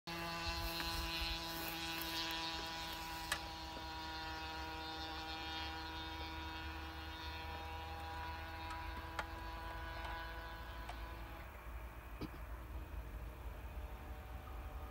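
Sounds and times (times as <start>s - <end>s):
faint electric hum: 0.1s - 14.9s.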